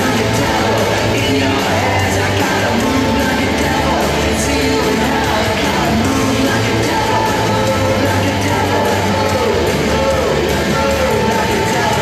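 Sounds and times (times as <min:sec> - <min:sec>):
loud music with steady beat: 0:00.0 - 0:12.0.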